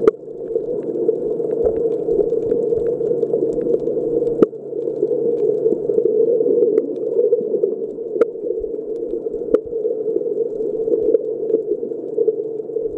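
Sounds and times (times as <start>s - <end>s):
muffled underwater rushing: 0.0s - 12.9s.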